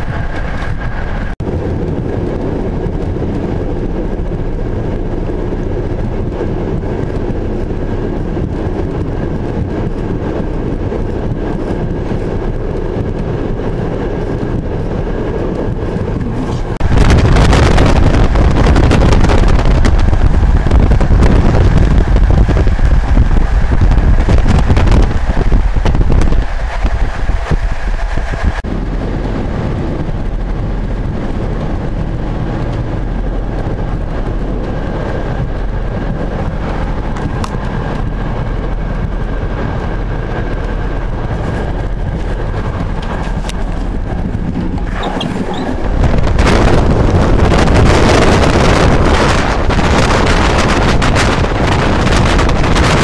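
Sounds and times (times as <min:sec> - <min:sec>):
moving train rumble: 0:00.0 - 0:53.0
wind noise on microphone: 0:00.0 - 0:53.0.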